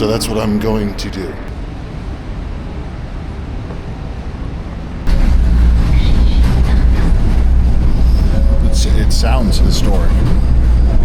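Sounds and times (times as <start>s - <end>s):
background noise: 0.0s - 11.0s
tram rumbling on rails: 0.0s - 11.0s.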